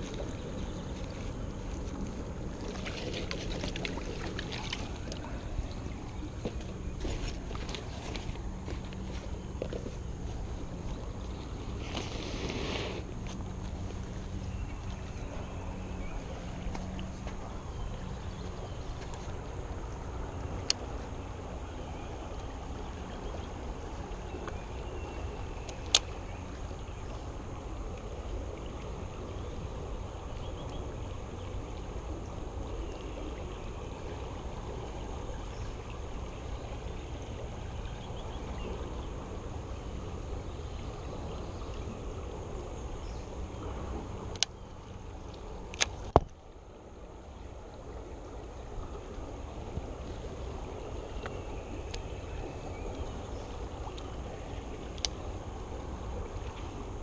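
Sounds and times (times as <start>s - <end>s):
flowing creek water: 0.0s - 57.0s.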